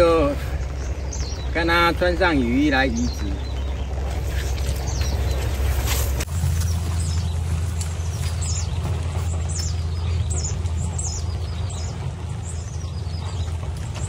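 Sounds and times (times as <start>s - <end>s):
bird chirping: 0.0s - 14.0s
steady low rumble: 0.0s - 14.0s.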